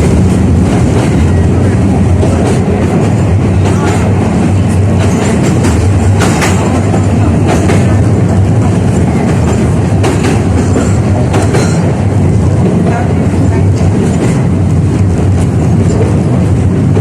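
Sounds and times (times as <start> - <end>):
tram wheels rumbling: 0.0 - 17.0.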